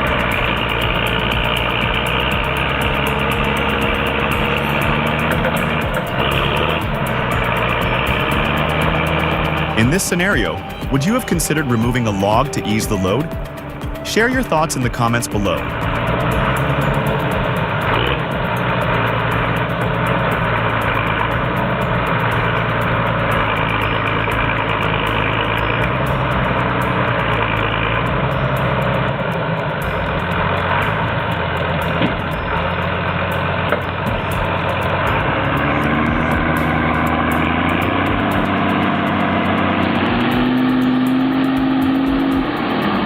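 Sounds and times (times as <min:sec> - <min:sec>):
heavy vehicle engine running: 0:00.0 - 0:43.0.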